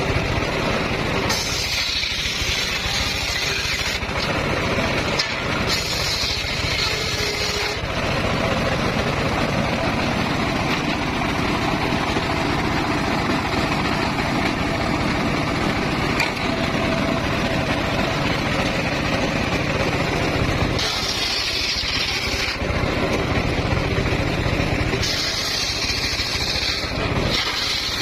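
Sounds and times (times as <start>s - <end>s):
circular saw droning: 1.0s - 28.0s.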